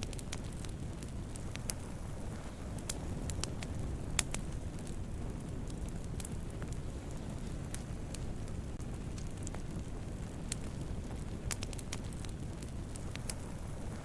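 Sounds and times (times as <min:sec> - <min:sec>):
fire crackles and pops: 0:00.0 - 0:14.0
low rush of flames: 0:00.0 - 0:14.0.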